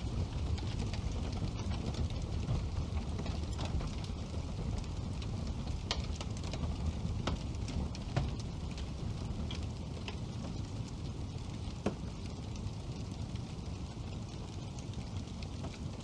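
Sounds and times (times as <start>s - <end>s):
fire crackling and popping: 0.0s - 16.0s
low rush of flame: 0.0s - 16.0s.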